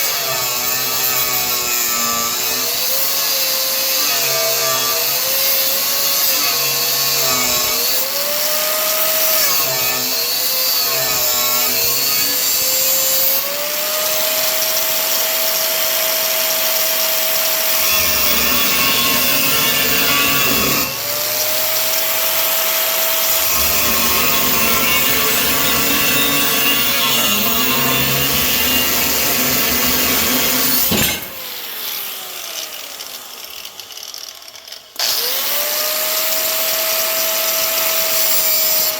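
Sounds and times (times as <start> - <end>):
power tool cutting steel: 0.0 - 38.9.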